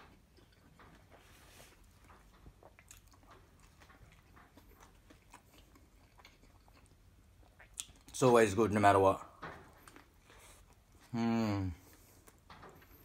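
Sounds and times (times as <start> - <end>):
faint chewing: 0.0 - 8.2, 9.6 - 13.0.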